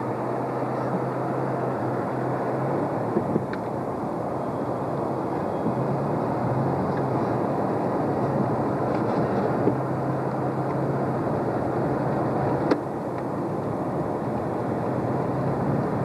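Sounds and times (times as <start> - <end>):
car engine drone: 0.0 - 16.0
tyres hissing on wet road: 0.2 - 16.0.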